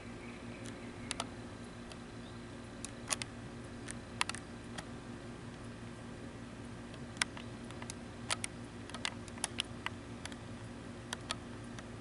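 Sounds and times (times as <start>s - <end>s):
low electronic hum: 0.0s - 12.0s.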